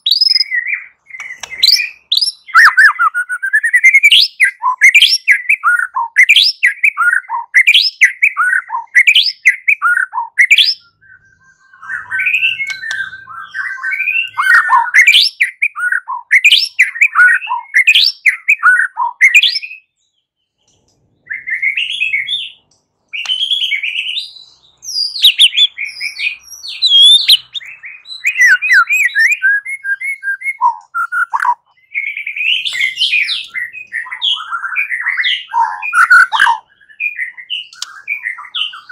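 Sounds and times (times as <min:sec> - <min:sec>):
songbird whistled song: 0:00.0 - 0:38.9.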